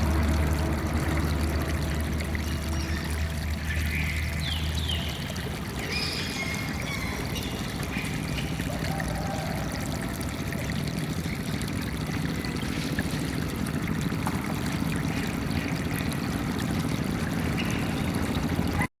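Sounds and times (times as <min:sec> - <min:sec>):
water flowing and trickling: 0:00.0 - 0:18.9.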